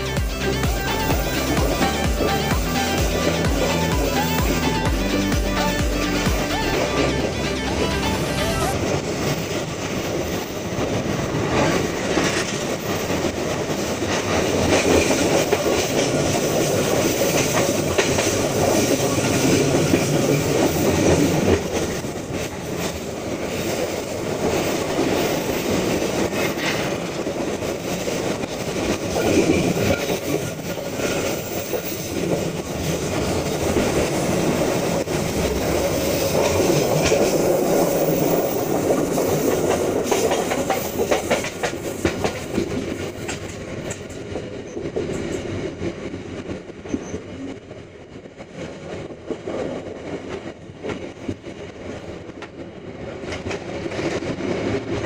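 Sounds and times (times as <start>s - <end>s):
train wheels rumbling on rails: 0.0s - 55.0s
sharp clacks of train wheels: 8.9s - 55.0s.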